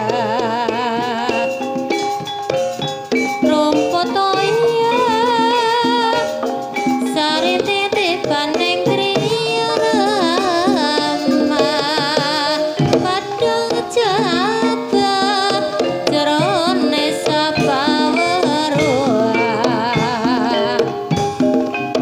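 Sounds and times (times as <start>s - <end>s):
hand drums beating: 0.0s - 22.0s
wavering melody with vibrato: 0.0s - 22.0s.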